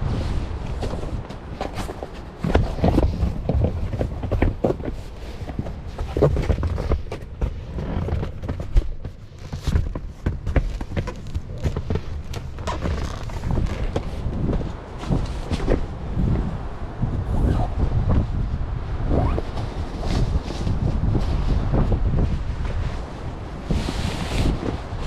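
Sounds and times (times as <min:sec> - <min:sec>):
rustling: 0:00.0 - 0:16.5, 0:19.2 - 0:25.0
strong wind rumble: 0:00.0 - 0:25.0.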